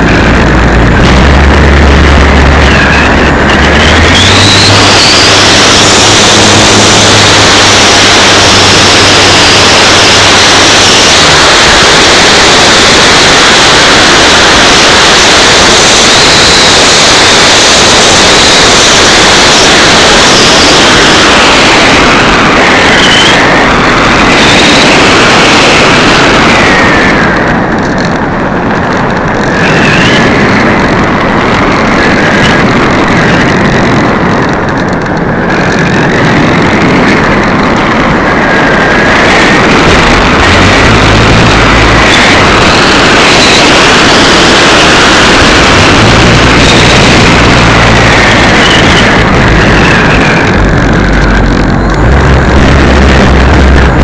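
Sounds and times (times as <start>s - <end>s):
electric motor whine: 0.0s - 28.2s, 35.2s - 54.0s
wind rushing over microphone: 0.0s - 54.0s.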